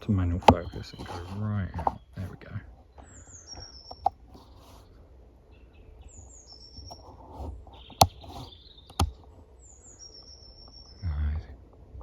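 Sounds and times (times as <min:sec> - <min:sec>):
small songbird singing: 0:00.0 - 0:11.6.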